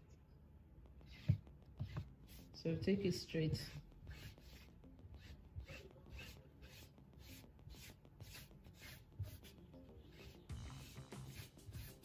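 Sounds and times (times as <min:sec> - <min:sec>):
chalk rubbing on fabric: 0:01.0 - 0:02.6, 0:03.5 - 0:12.0.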